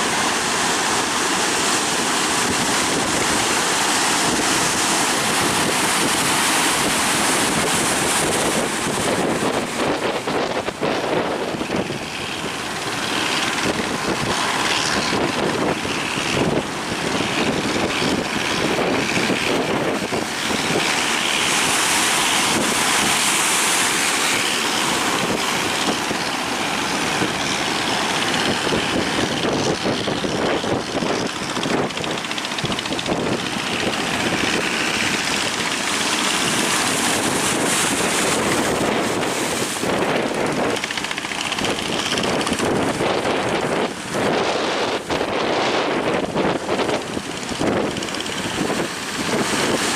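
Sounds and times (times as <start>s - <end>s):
boat engine running: 0.0s - 49.9s
waves breaking: 0.0s - 49.9s
wind buffeting microphone: 0.0s - 49.9s.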